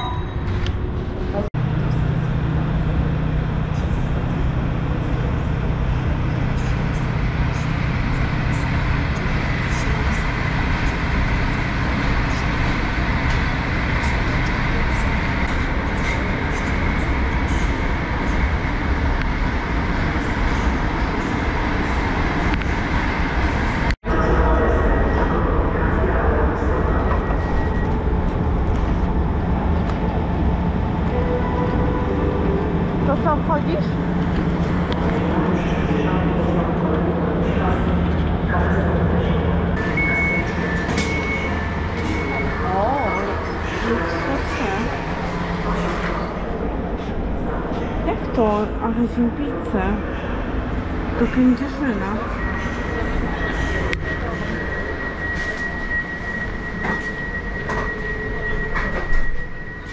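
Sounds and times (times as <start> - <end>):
train hum and rumble: 0.0 - 59.9.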